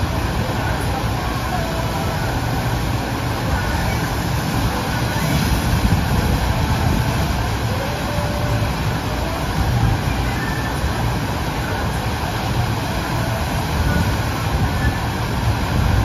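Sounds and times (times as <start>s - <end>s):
rushing pumped water: 0.0s - 16.0s.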